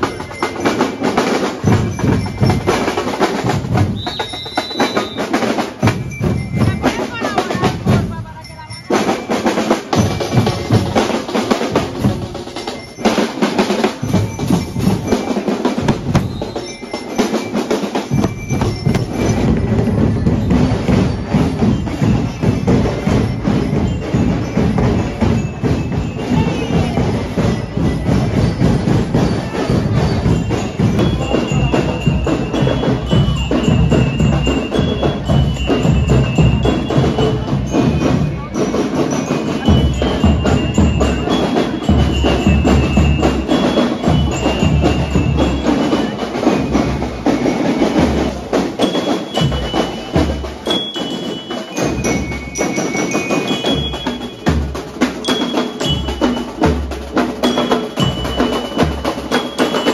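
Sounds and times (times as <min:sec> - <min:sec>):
marching band percussion: 0:00.0 - 0:59.9.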